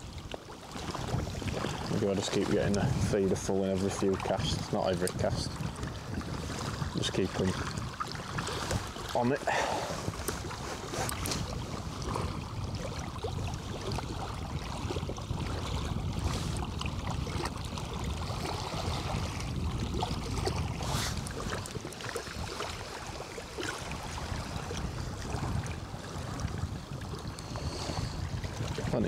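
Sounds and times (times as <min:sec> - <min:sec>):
small waves lapping shore: 0:00.0 - 0:29.0
wind noise on microphone: 0:00.0 - 0:29.0.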